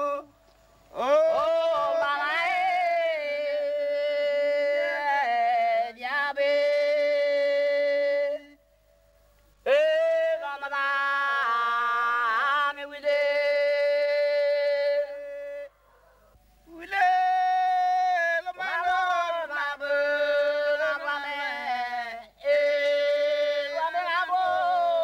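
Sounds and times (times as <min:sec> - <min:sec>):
person singing unaccompanied: 0:00.0 - 0:08.8, 0:09.4 - 0:25.0.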